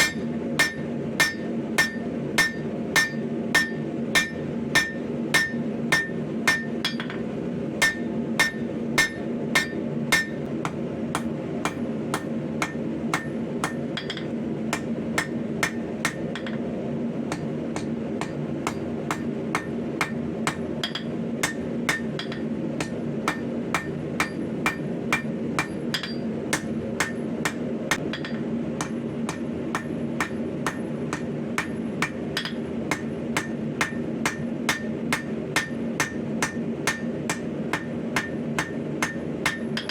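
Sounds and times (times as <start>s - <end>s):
hammer striking anvil: 0.0s - 16.7s, 17.3s - 39.9s
steady low hum: 0.0s - 39.9s.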